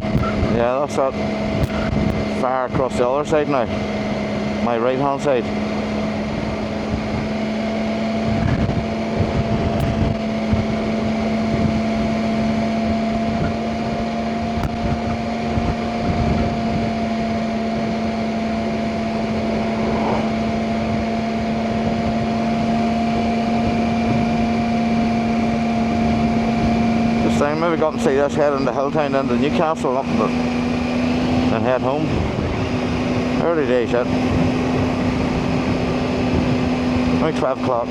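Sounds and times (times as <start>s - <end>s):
motorcycle engine running: 0.0s - 37.9s
wind buffeting microphone: 0.0s - 37.9s.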